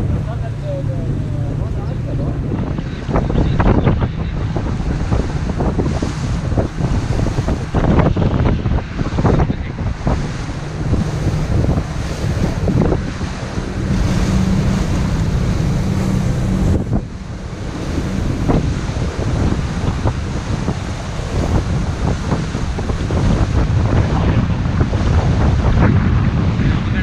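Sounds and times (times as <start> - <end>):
boat engine hum: 0.0 - 27.0
rushing water: 0.0 - 27.0
wind buffeting microphone: 0.0 - 27.0.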